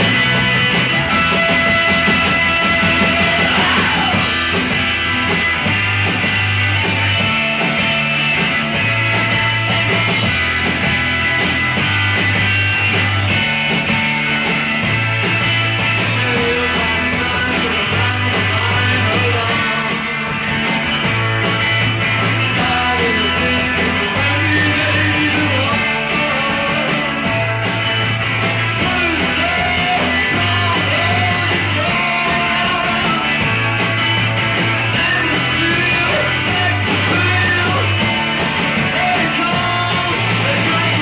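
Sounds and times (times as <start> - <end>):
bass guitar: 0.0 - 41.0
drums and cymbals: 0.0 - 41.0
electric guitars: 0.0 - 41.0.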